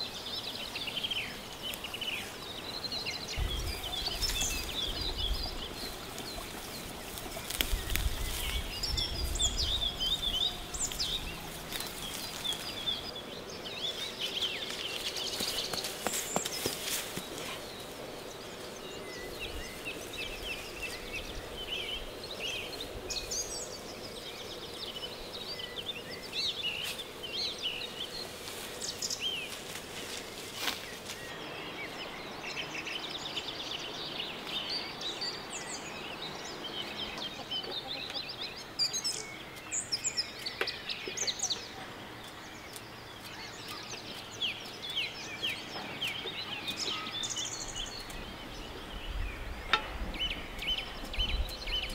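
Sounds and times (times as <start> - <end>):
songbirds chirping and singing: 0.0 - 51.9.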